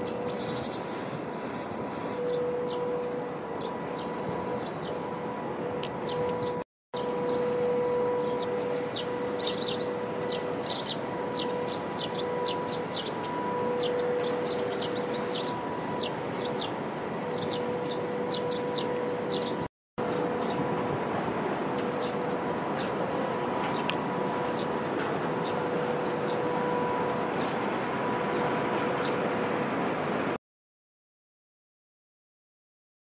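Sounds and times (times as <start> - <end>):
constant hum: 0.0 - 30.4
distant city and harbour noise: 0.0 - 30.4.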